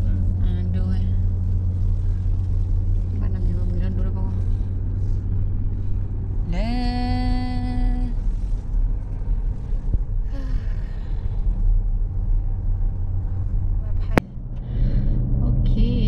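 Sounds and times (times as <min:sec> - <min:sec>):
car rumbling inside cabin: 0:00.0 - 0:16.0.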